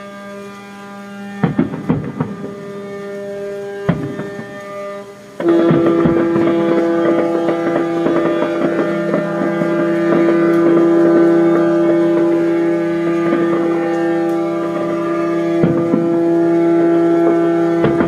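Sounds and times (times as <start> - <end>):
faint crackles: 0.0 - 18.0
ship horns sounding: 0.0 - 18.0.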